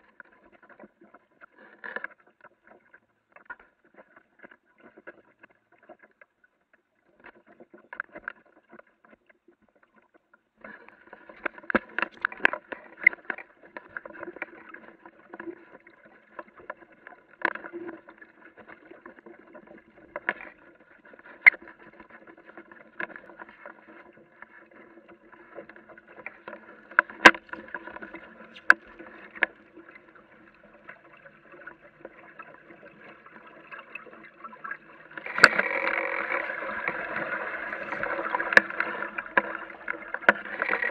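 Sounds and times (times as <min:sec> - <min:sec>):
water lapping against boat hull: 0:00.0 - 0:40.9.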